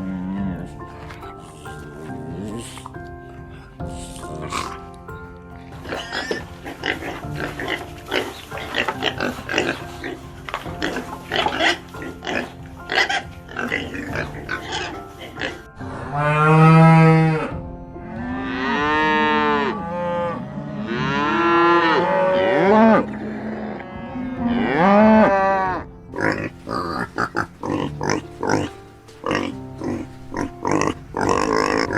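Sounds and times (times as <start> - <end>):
cattle mooing: 5.8 - 31.9.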